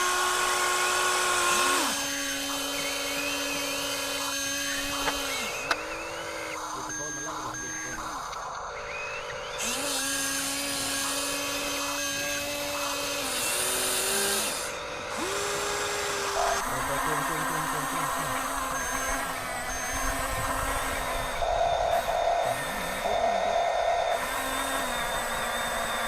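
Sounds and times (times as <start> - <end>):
toy electric motors whining: 0.0 - 26.0.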